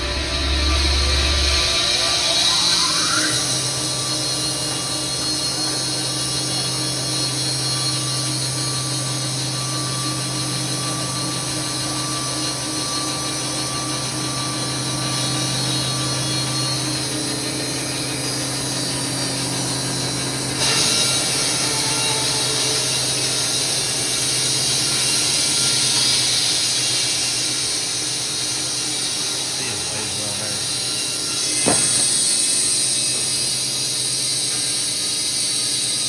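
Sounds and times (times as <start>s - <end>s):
band sawmill sawing log: 0.0s - 35.6s.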